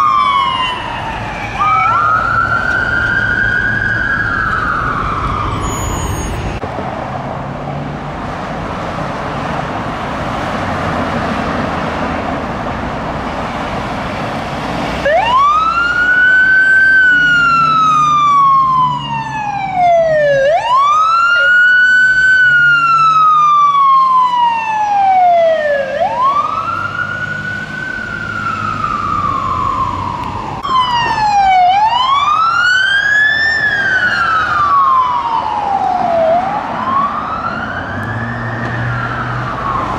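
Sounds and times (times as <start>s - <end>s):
fire engine siren wailing: 0.0s - 6.7s, 9.4s - 39.9s
road traffic noise: 0.0s - 39.9s.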